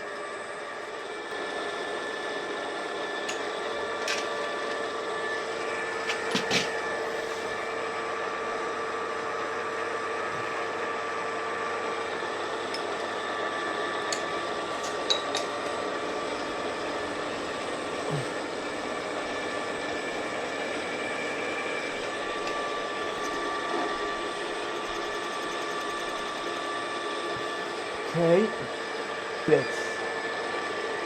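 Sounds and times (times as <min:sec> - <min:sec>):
milling machine whine: 0:00.0 - 0:31.0.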